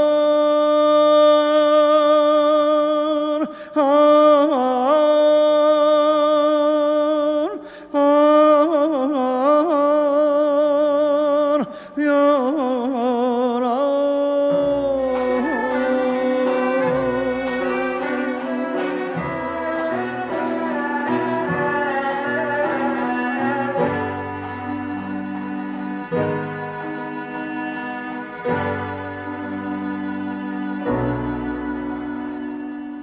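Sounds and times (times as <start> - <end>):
man singing wordless melismatic vocal: 0.0 - 30.3.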